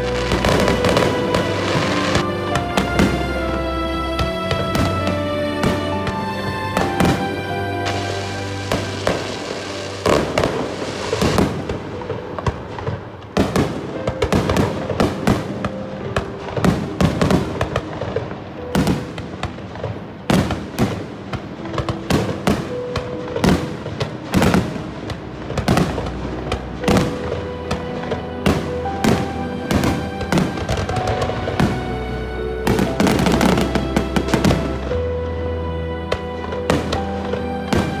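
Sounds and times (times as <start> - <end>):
background music: 0.0 - 38.0
fireworks bangs and crackles: 0.0 - 38.0.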